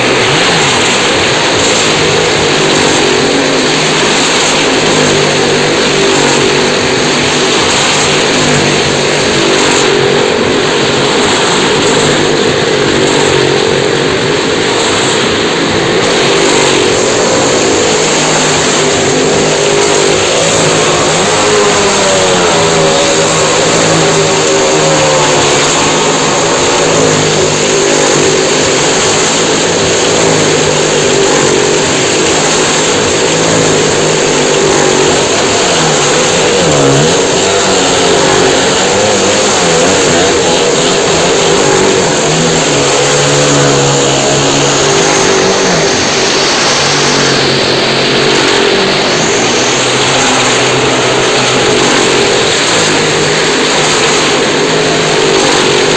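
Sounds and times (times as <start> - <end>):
motorcycle and car engines at speed: 0.0 - 55.9.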